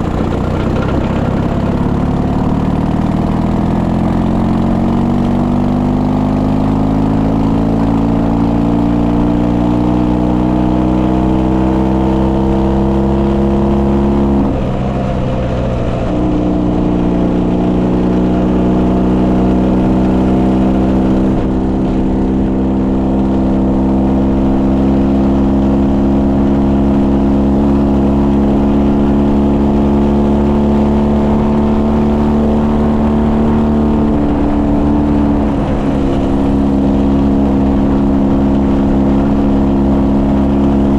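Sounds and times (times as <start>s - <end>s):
motorcycle engine pulling under load: 0.0s - 40.9s.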